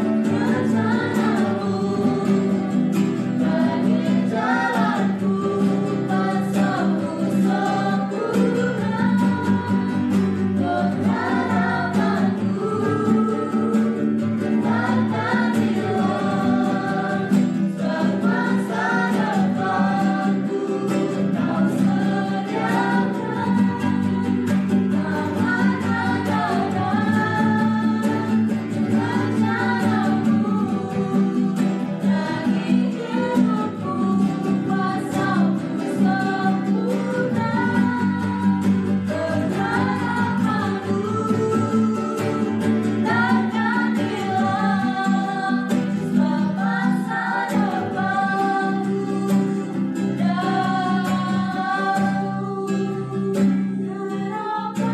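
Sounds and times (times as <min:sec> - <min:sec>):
acoustic guitars strumming: 0:00.0 - 0:54.9
group singing worship song: 0:00.0 - 0:54.9.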